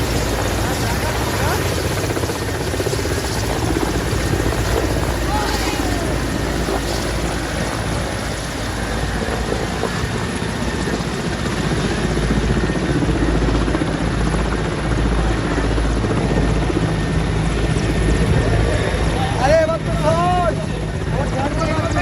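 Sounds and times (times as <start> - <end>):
helicopter taking off: 0.0 - 22.0.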